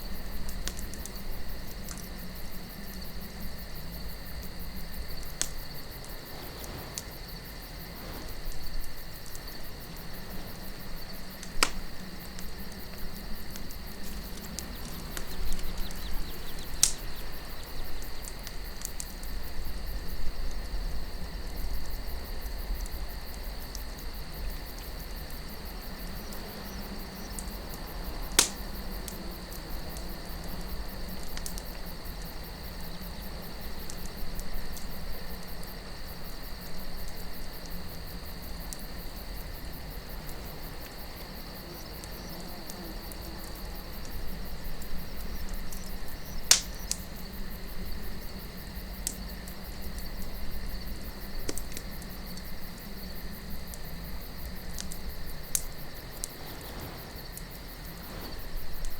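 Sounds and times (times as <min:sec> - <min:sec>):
campfire crackling: 0:00.0 - 0:58.9
low wind rumble: 0:00.0 - 0:58.9
night insects trilling: 0:00.0 - 0:58.9.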